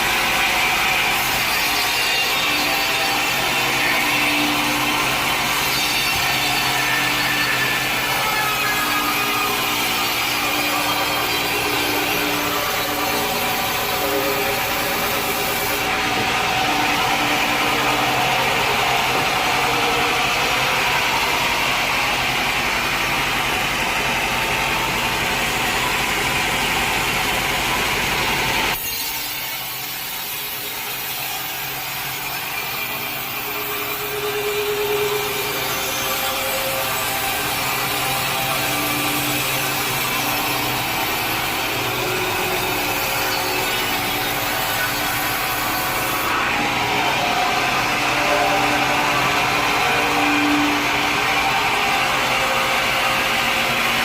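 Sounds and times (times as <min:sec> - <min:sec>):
saw cutting through log: 0:00.0 - 0:54.0
sawmill machinery running: 0:00.0 - 0:54.0.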